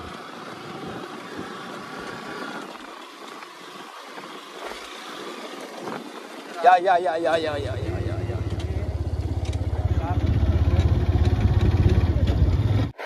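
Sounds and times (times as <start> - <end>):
motorbike engine and road noise: 0.0 - 13.0.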